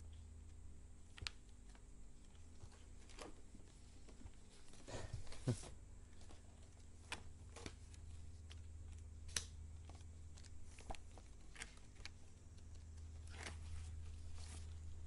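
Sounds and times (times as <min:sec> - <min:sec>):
low steady hum: 0:00.0 - 0:15.0
paper pages rustling: 0:01.1 - 0:15.0.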